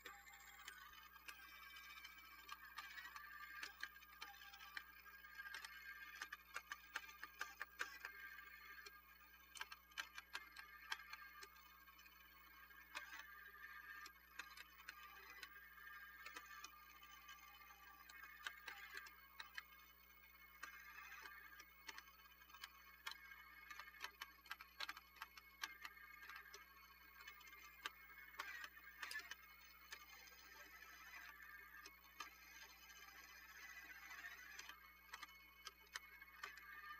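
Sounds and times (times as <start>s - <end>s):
plastic gears clicking: 0.0s - 36.9s
toy robot arm whirring: 0.0s - 36.9s.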